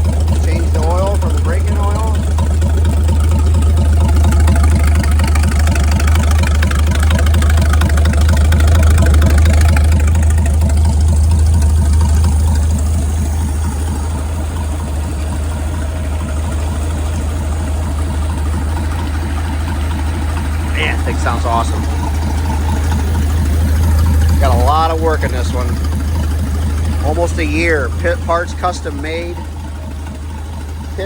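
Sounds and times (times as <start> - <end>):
boat engine running smoothly: 0.0 - 31.0.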